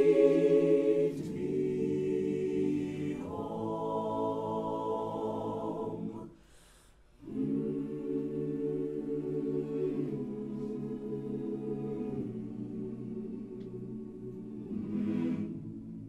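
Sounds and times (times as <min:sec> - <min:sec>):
choir singing a cappella: 0:00.0 - 0:06.6, 0:07.2 - 0:16.0.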